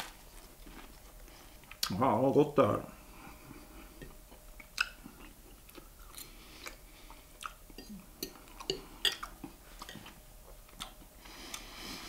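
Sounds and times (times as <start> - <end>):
man chewing food: 0.0 - 1.9, 3.1 - 12.0.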